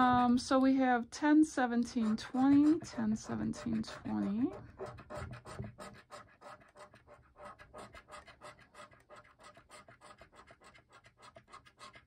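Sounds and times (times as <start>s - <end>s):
coin scratching lottery ticket: 1.9s - 12.0s.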